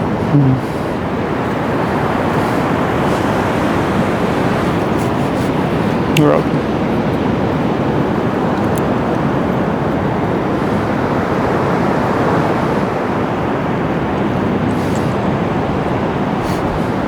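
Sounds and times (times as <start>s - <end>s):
surf on a beach: 0.0s - 17.0s
wind: 0.0s - 17.0s.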